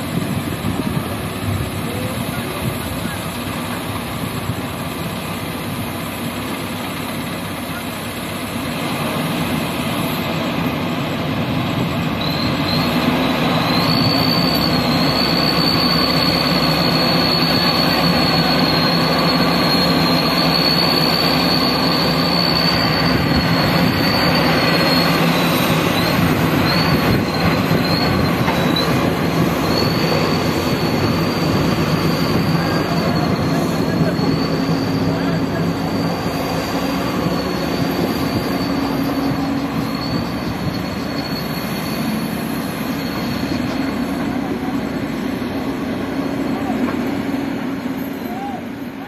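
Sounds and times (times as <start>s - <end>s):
diesel backhoe working under load: 0.0s - 49.0s
high wavering squeal: 0.0s - 49.0s.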